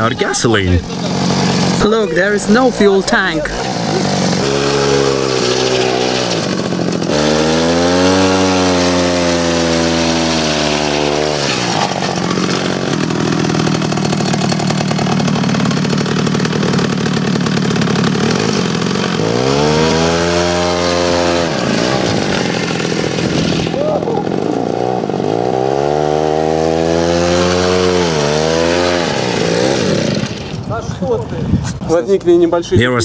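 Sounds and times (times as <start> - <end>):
two-stroke engine revving: 3.6 - 30.6.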